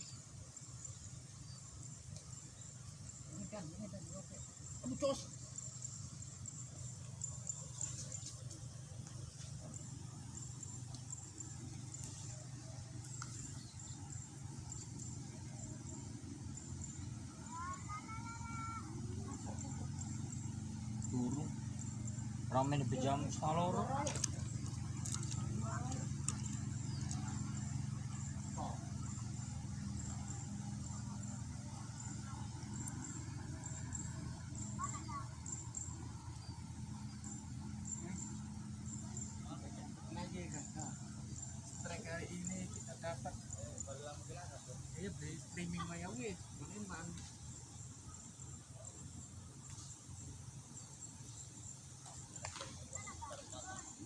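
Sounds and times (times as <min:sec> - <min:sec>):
insects chirping trills: 0:00.0 - 0:54.0
steady low hum: 0:00.0 - 0:54.0.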